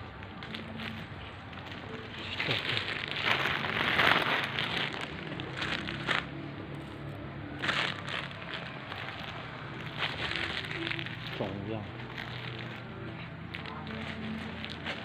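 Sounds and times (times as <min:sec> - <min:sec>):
plastic bag rustling: 0:00.0 - 0:07.0, 0:07.6 - 0:15.0.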